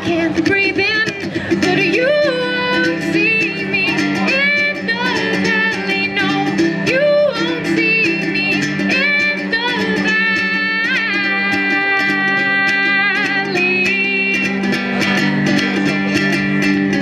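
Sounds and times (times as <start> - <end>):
woman singing: 0.0 - 15.4
ukulele strumming: 0.0 - 17.0.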